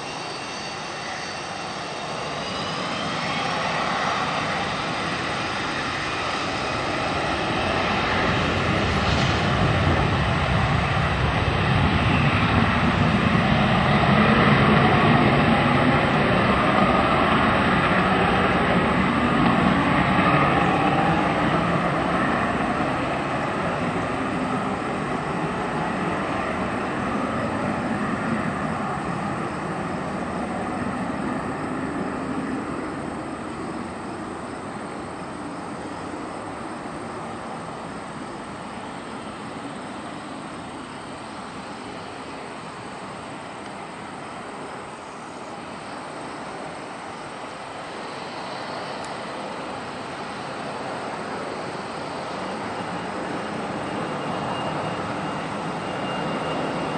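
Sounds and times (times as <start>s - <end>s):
jet airliner passing: 0.0s - 56.9s.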